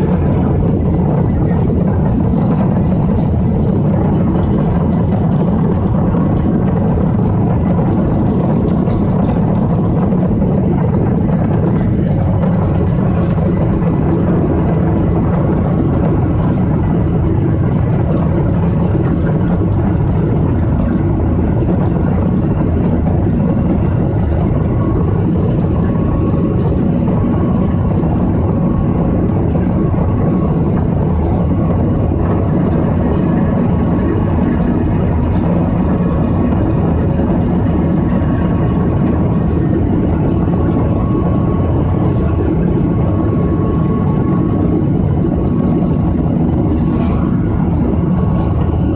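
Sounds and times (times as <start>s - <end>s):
jet engines droning in cabin: 0.0s - 48.9s.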